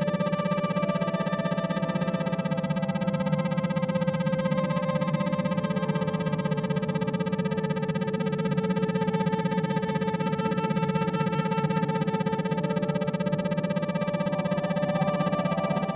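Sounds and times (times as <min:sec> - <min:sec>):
low pulsing tone: 0:00.0 - 0:15.9.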